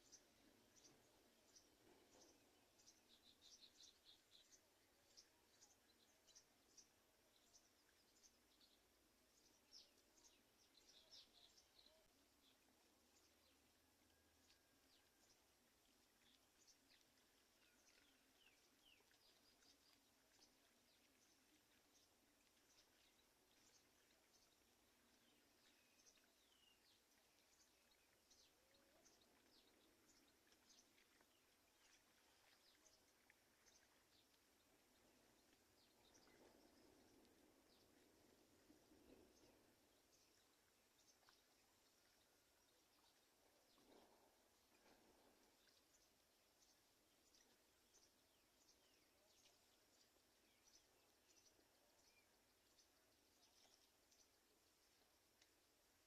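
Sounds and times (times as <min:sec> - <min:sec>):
background hiss: 0:00.0 - 0:56.0
faint bird chirps: 0:00.0 - 0:56.0.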